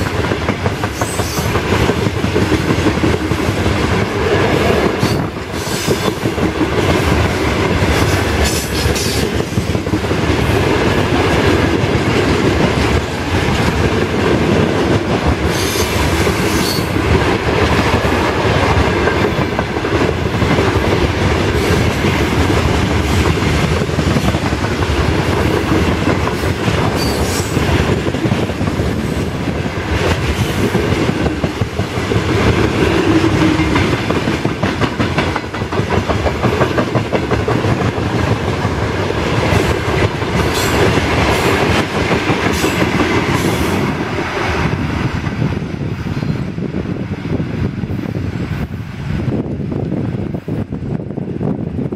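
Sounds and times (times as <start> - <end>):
wheels clacking over rail joints: 0.0 - 45.4
freight train rumbling past: 0.0 - 51.9.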